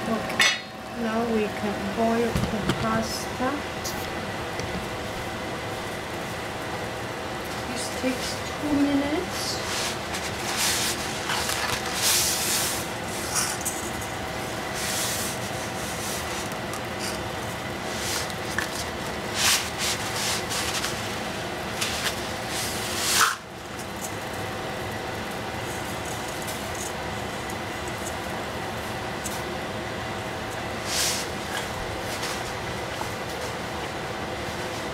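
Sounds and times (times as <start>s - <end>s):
water boiling in pot: 0.0s - 34.9s
dry pasta rustling and scraping: 5.6s - 33.7s.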